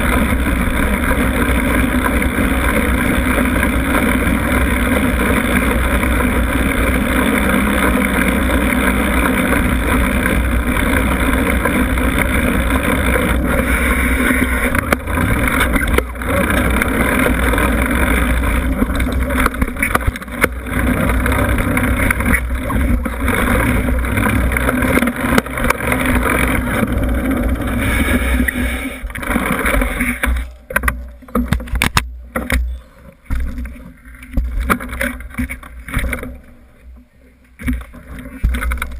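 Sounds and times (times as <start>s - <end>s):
bike knocks and rattles: 0.0s - 36.6s, 37.5s - 38.9s
bike clicks and knocks: 0.0s - 36.7s, 37.5s - 38.9s
wind and tyres rumbling: 0.0s - 38.9s.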